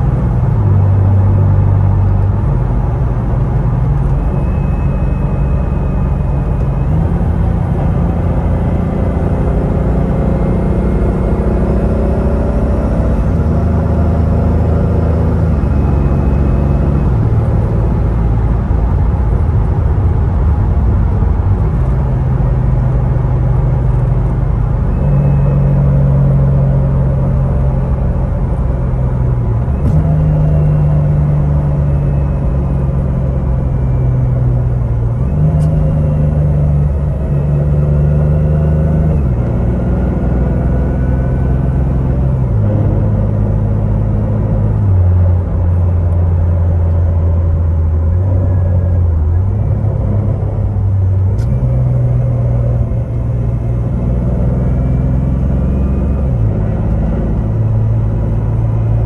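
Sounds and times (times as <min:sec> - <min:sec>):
car engine with gear changes: 0:00.0 - 0:59.0
road noise: 0:00.0 - 0:59.0.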